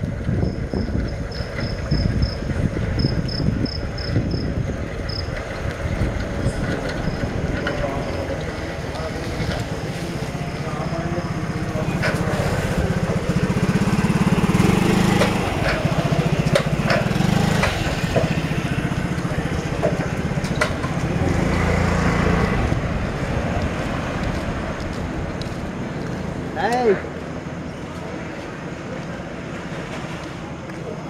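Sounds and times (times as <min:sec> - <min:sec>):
small engine rumbling: 0:00.0 - 0:31.0.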